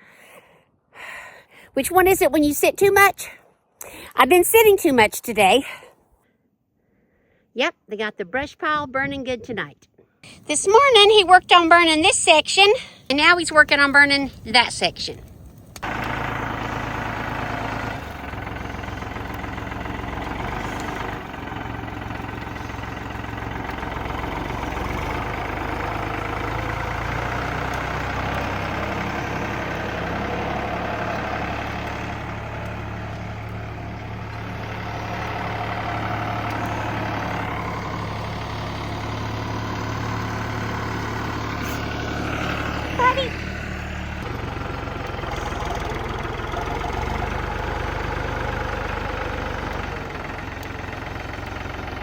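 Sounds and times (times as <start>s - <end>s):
tractor engine humming: 1.0s - 5.8s, 10.2s - 52.0s.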